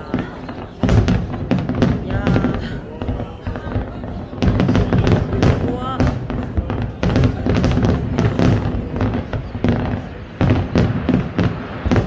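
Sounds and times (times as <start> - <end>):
fireworks bangs and crackles: 0.0 - 12.0
loud firework reports: 0.0 - 12.0.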